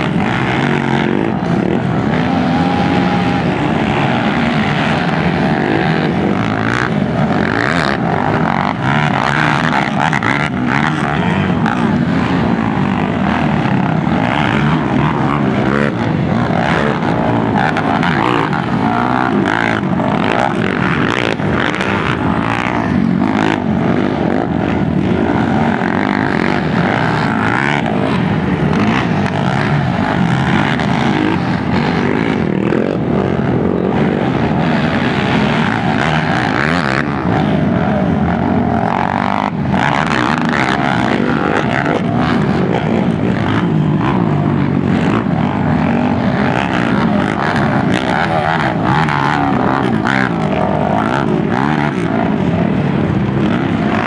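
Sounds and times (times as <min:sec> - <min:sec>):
quad engines revving: 0:00.0 - 0:54.0.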